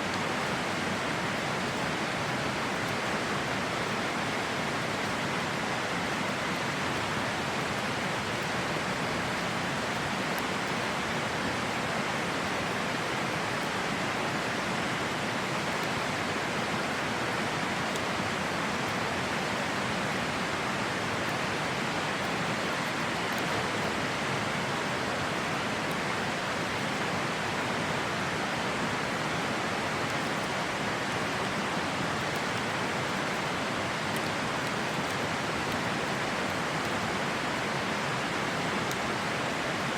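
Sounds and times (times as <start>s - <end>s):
river water flowing: 0.0s - 39.9s
campfire crackling: 0.1s - 39.9s.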